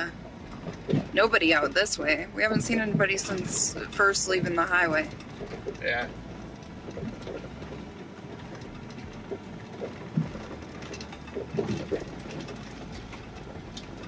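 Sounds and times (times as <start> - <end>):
knocks and rattles: 0.0 - 14.0.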